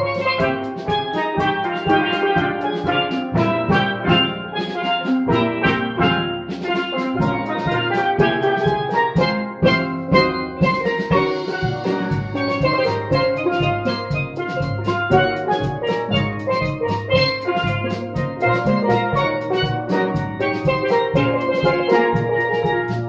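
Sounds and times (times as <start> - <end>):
steel pan ensemble playing: 0.0 - 23.0.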